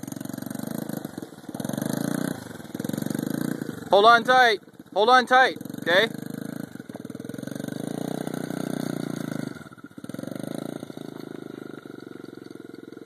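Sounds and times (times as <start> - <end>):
quad engine under throttle: 0.0 - 13.0.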